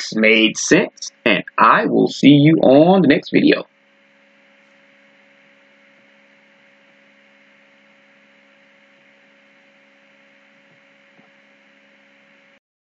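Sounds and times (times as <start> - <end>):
faint hiss with electrical hum: 0.0 - 12.6.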